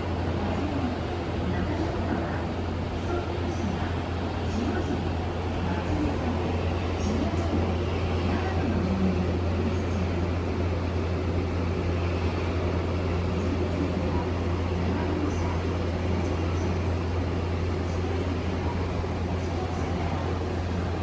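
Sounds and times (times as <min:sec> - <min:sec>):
train humming and rumbling: 0:00.0 - 0:21.0.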